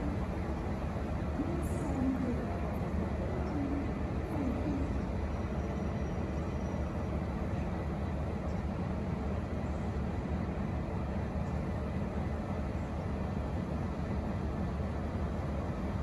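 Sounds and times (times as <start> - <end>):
diesel locomotive engine running: 0.0 - 16.0.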